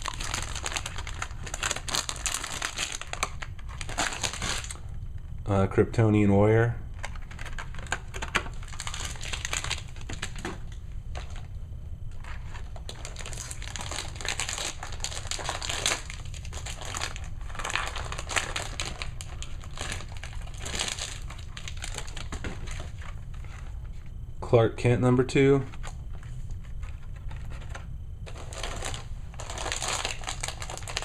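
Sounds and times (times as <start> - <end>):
plastic packaging crinkling: 0.0 - 4.8, 7.0 - 11.5, 12.1 - 24.2, 25.6 - 31.0.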